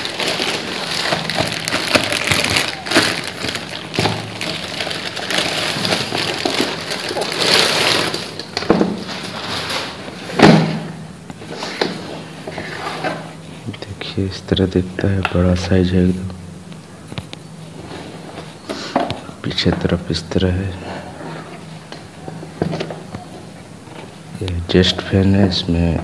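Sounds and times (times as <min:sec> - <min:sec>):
plastic bag crinkling: 0:00.0 - 0:13.8, 0:17.6 - 0:25.8.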